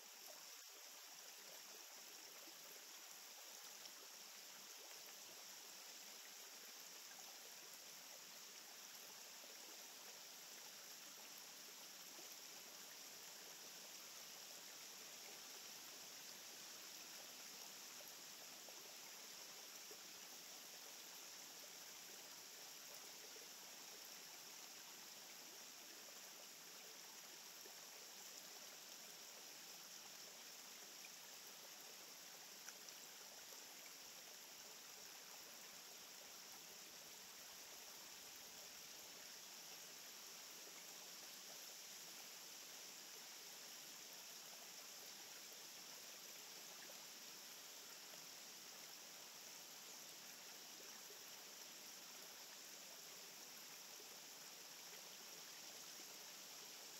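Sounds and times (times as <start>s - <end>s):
faint rushing hiss: 0.0s - 56.9s.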